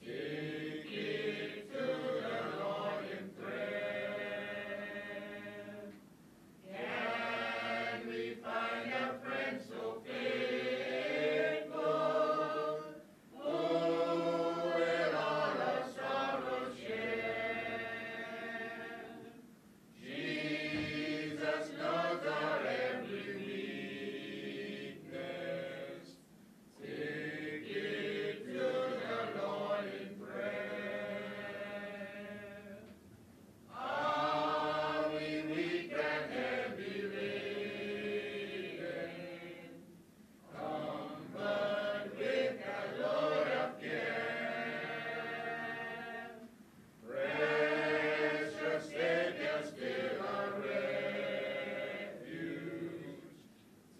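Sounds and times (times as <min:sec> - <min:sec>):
group singing a slow hymn: 0:00.0 - 0:53.8.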